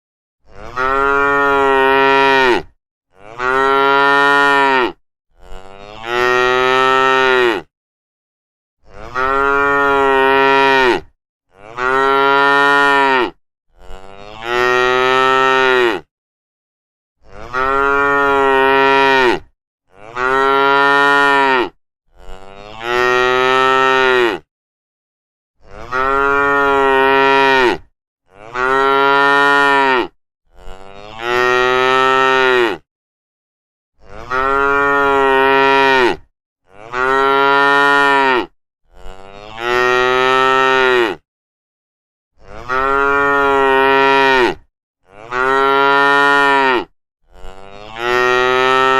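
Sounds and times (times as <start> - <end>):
cattle mooing: 0.5 - 7.7, 8.9 - 16.1, 17.2 - 24.5, 25.7 - 32.8, 34.0 - 41.2, 42.4 - 48.9.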